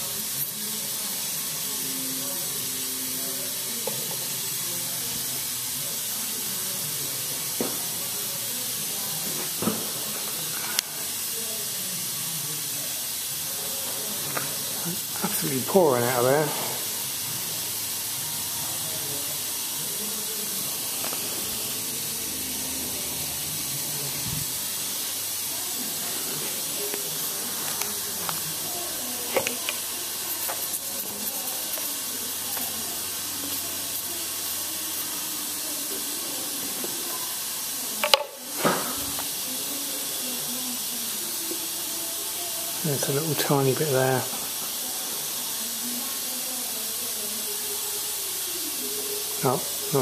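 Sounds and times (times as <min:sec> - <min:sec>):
gas hissing from pipe: 0:00.0 - 0:50.0.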